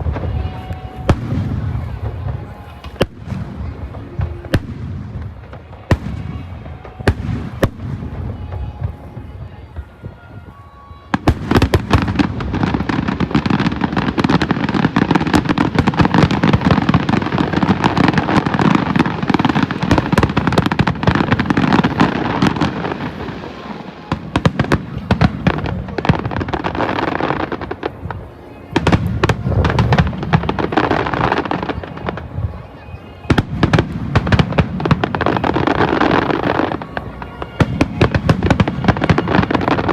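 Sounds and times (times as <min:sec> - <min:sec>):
fireworks cracking and booming: 0:00.0 - 0:39.9.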